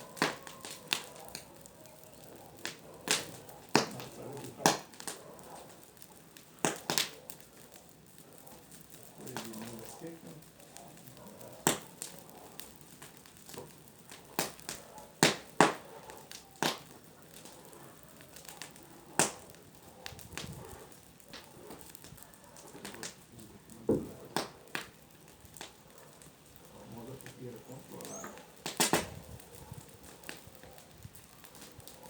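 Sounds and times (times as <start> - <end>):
bonfire popping and cracking: 0.0 - 32.0.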